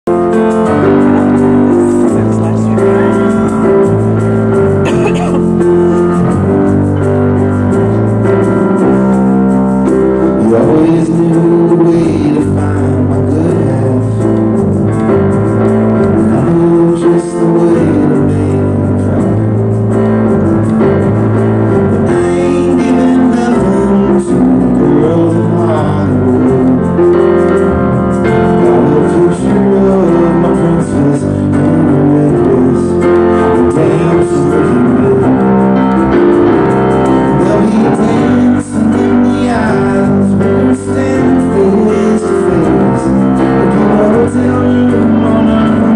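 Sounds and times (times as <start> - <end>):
acoustic guitar: 0.0 - 45.9
keyboard: 0.0 - 45.9
steady bass line: 0.0 - 45.9.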